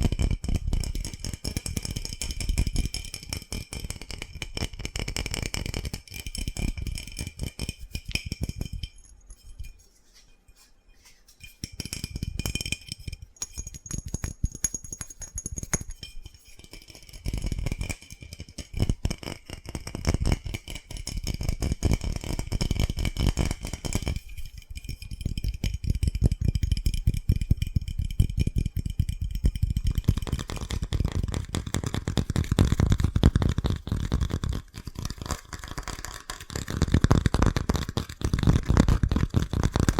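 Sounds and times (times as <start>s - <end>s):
fingernails tapping hard object: 0.0s - 9.7s, 11.4s - 39.9s.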